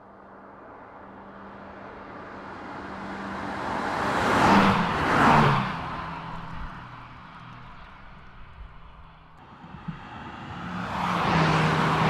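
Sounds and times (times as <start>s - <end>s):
cars passing by: 0.4s - 12.0s.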